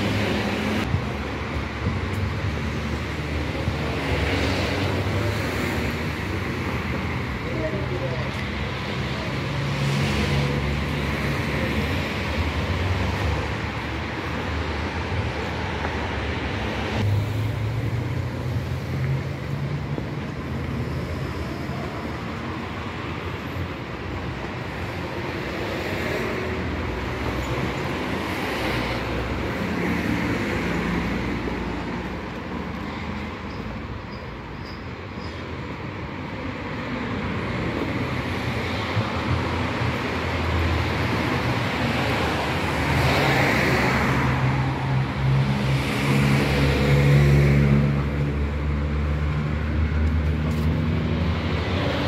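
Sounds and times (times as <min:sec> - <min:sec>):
road traffic: 0:00.0 - 0:52.0
vehicles passing: 0:00.0 - 0:52.0.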